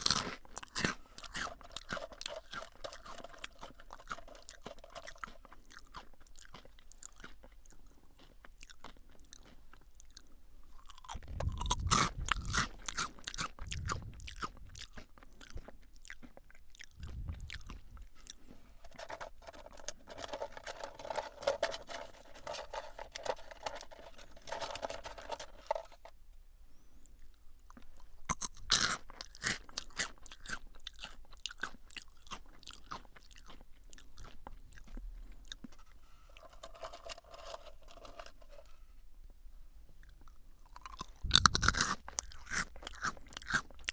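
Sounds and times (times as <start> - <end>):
crunching and chewing potato sticks: 0.0 - 26.2, 27.0 - 43.9.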